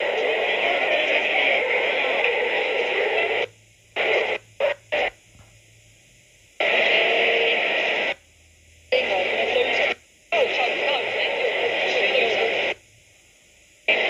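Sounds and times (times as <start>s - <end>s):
harsh videotape hiss: 0.0s - 14.0s.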